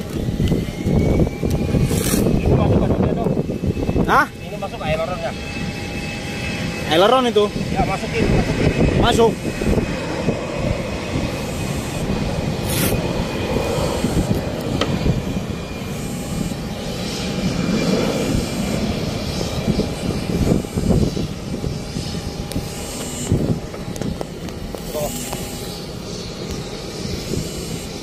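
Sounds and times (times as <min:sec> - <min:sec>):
aircraft engine drone: 0:00.0 - 0:28.0.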